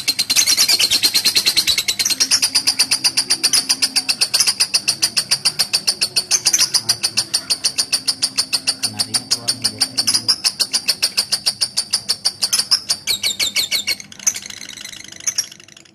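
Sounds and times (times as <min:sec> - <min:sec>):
lovebird chattering high chirps: 0:00.0 - 0:15.9.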